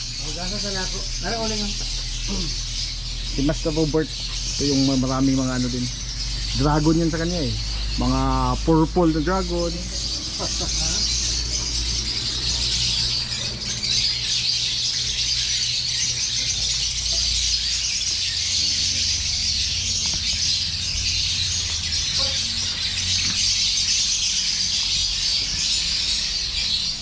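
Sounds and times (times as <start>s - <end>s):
lovebirds chattering and screeching: 0.0s - 27.0s.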